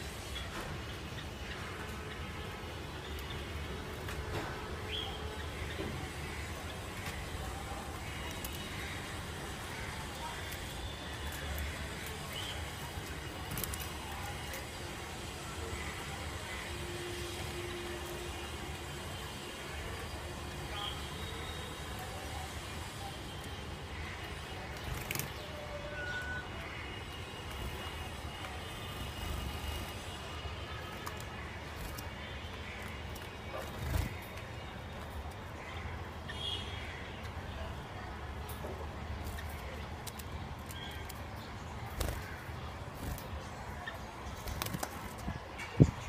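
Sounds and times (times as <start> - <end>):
low background noise: 0.0 - 46.0.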